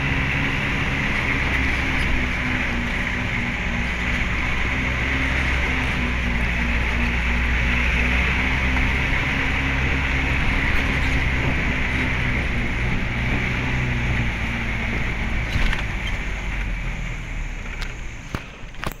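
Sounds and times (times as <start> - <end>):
vehicle engine running: 0.0 - 19.0
wind and road noise: 0.0 - 19.0.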